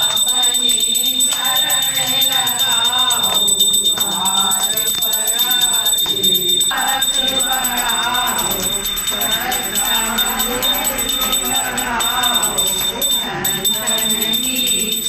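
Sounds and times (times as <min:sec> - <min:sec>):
hand bell rung rapidly: 0:00.0 - 0:15.0
voices singing a hymn: 0:00.0 - 0:15.0.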